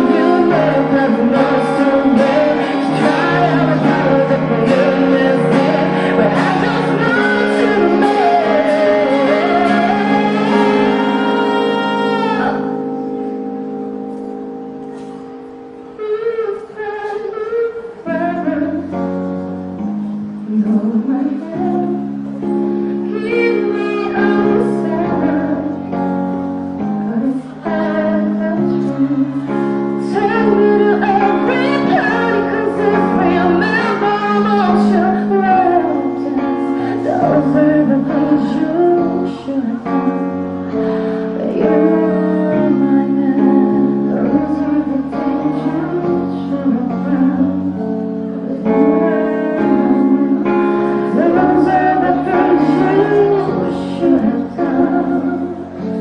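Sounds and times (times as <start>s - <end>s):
woman singing: 0.0s - 12.9s, 16.0s - 19.2s, 20.4s - 26.0s, 26.8s - 56.0s
electronic keyboard chords: 0.0s - 56.0s.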